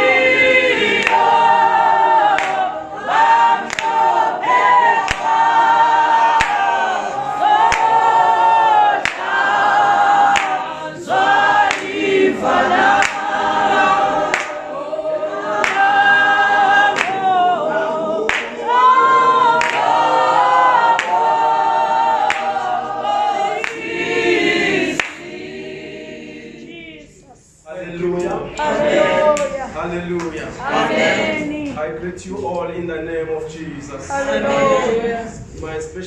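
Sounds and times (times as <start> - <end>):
choir singing a cappella: 0.0 - 31.9, 33.7 - 36.0.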